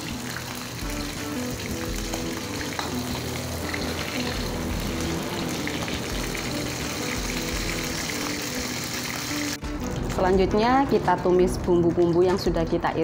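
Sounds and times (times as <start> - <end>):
oil sizzling in a wok: 0.0 - 10.6
soft background music: 0.0 - 13.0.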